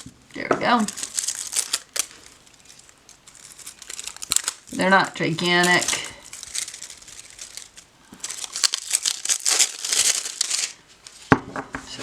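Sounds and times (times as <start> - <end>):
crinkly packaging crumpling: 0.0 - 11.3.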